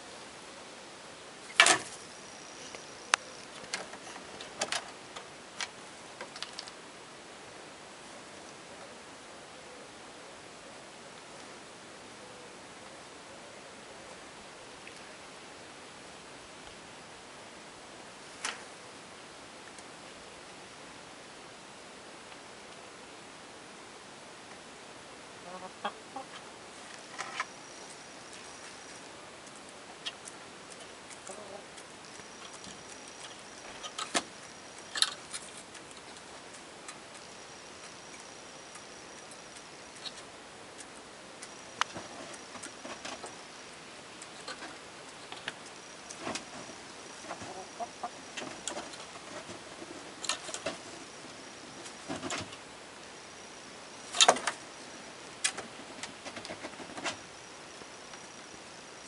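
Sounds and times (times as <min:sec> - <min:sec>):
steady low hiss: 0:00.0 - 0:59.0.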